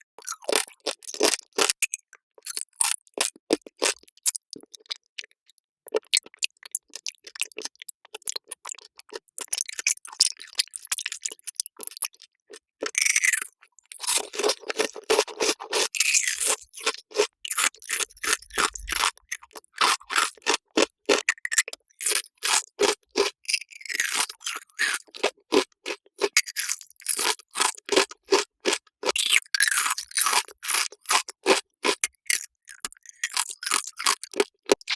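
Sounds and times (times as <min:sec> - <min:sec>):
crisp crunching and chewing: 0:00.2 - 0:05.3, 0:05.9 - 0:34.9.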